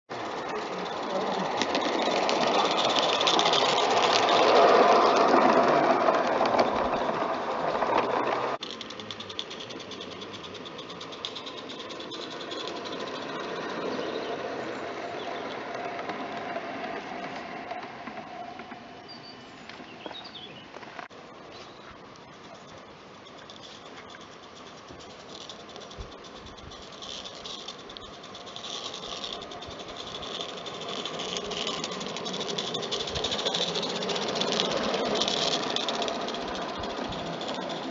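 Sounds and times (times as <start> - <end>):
model train mechanical chatter: 0.0 - 18.6, 22.0 - 37.9.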